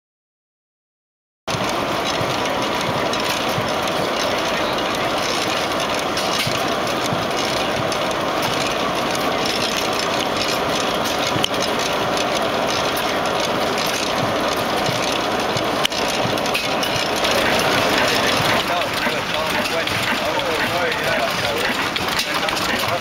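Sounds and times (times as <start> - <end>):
oil engine clattering: 1.5 - 23.0.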